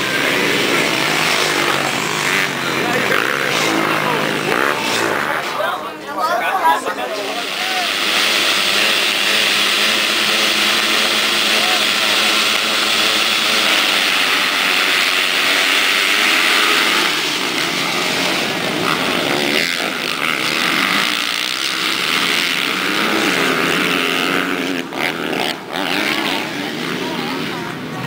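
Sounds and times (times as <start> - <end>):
motocross bikes racing: 0.0 - 28.0.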